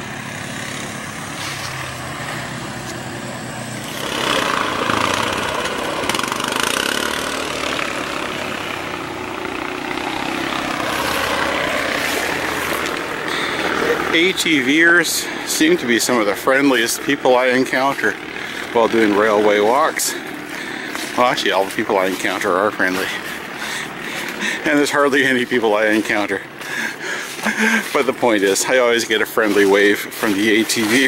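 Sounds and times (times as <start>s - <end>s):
atv engines passing: 0.0s - 31.0s.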